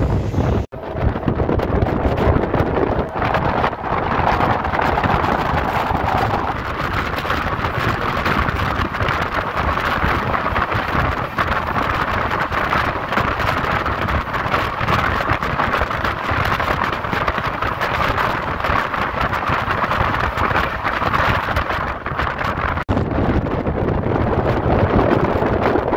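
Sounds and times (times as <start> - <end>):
train running noise: 0.0 - 25.6
wind buffeting microphone: 0.0 - 25.9.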